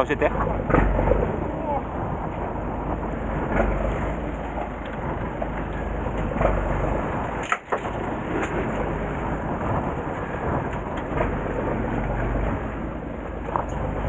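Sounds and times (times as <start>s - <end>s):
boat engine: 0.0s - 14.0s
wind on microphone: 0.0s - 14.0s.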